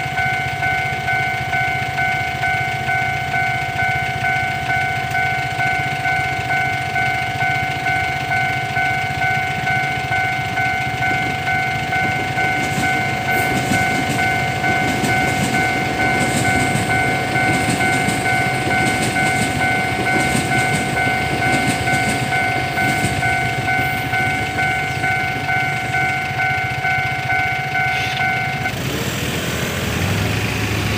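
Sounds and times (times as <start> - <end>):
level crossing warning bell: 0.0 - 28.9
train wheels clattering on rail joints: 0.1 - 28.7.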